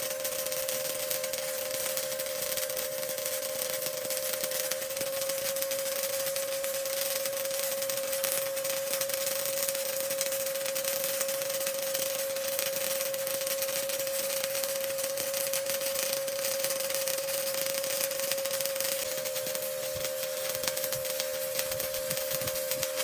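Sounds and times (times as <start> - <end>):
constant whine: 0.0 - 23.0
welding arc crackling sizzle: 0.0 - 23.0.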